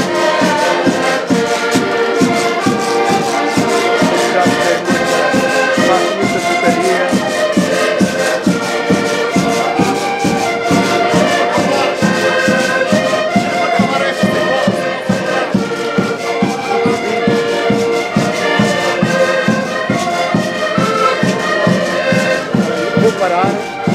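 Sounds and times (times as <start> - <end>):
button accordions playing lively tune: 0.0 - 23.9.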